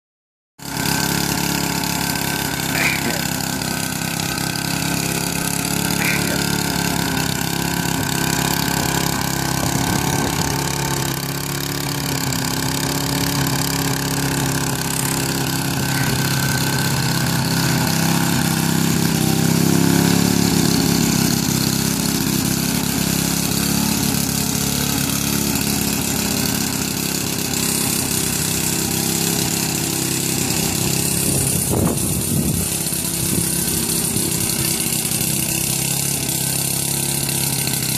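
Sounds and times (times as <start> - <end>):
lawn mower running: 0.6 - 37.9.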